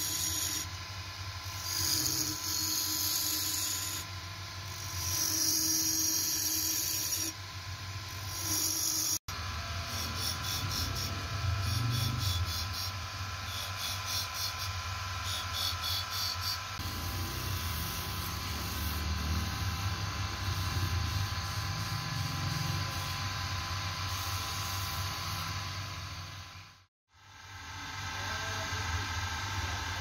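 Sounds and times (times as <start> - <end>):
wood lathe humming: 0.0 - 26.0.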